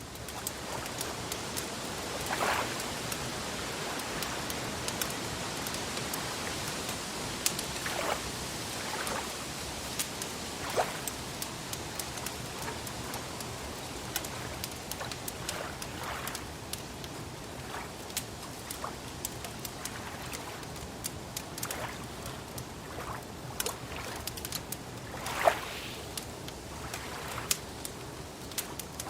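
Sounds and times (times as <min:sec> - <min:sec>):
wood fire crackling and popping: 0:00.0 - 0:26.7, 0:27.4 - 0:29.0
hiss of lake water: 0:00.0 - 0:29.0
water lapping: 0:00.0 - 0:29.0.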